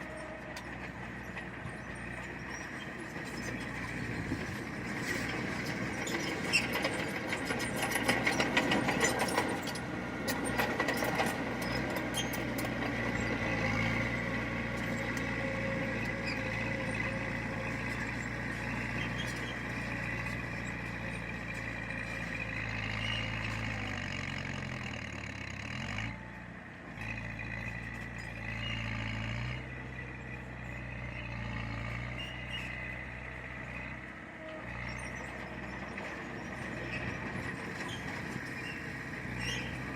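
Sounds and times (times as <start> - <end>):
diesel machine engine running: 0.0 - 39.9.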